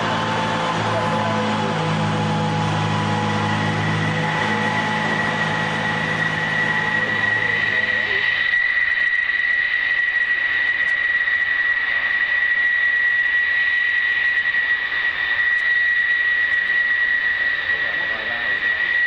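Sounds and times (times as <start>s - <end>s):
jet engine whining: 0.0s - 19.0s.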